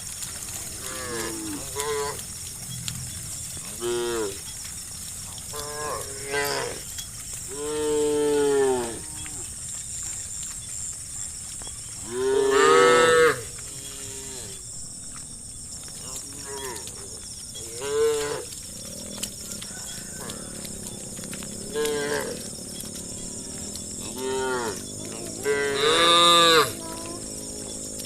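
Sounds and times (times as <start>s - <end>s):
cows mooing: 0.4s - 9.6s, 12.0s - 14.6s, 16.0s - 28.0s.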